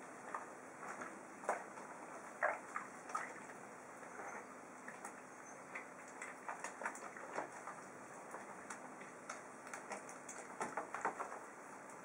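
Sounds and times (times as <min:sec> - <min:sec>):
water sloshing and splashing in tub: 0:00.0 - 0:12.0.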